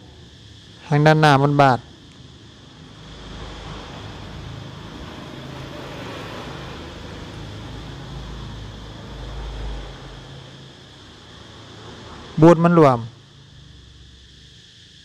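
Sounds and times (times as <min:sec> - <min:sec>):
faint high whine: 0:00.0 - 0:15.0
road traffic rumble: 0:00.0 - 0:15.0.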